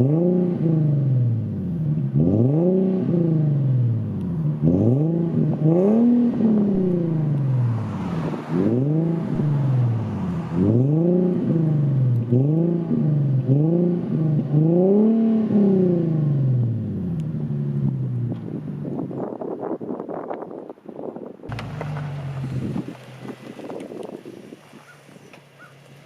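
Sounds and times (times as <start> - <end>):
car engine revving: 0.0 - 19.1, 21.5 - 26.0.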